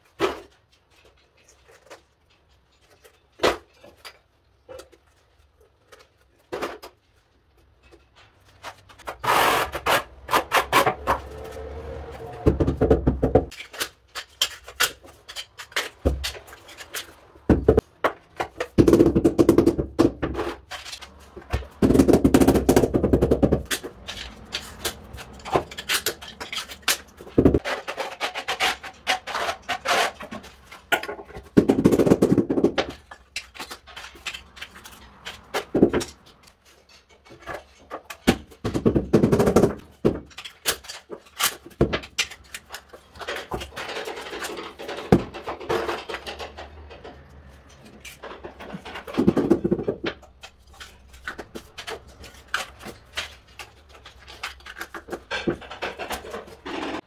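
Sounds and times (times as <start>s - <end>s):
tiles and tools clicking: 0.1s - 57.0s.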